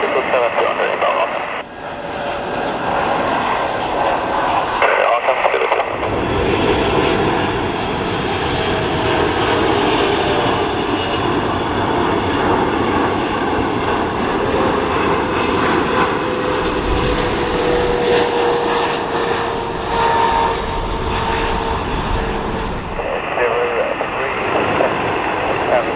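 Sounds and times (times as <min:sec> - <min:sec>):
jet engines whining: 0:00.0 - 0:25.9.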